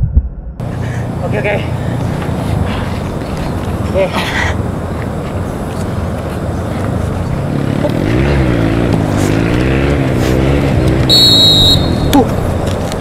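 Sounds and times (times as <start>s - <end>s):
steady low rumble: 0.0s - 13.0s
vehicle engine passing: 0.6s - 13.0s.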